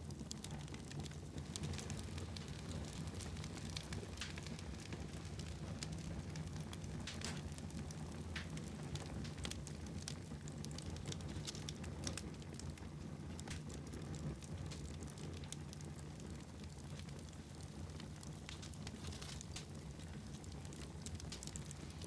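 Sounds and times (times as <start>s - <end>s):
fire crackling and popping: 0.0s - 22.0s
fire low rumble: 0.0s - 22.0s.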